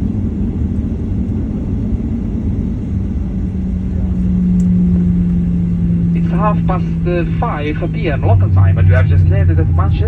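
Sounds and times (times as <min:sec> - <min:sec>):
aircraft cabin low rumble: 0:00.0 - 0:10.0
steady hum: 0:00.0 - 0:10.0.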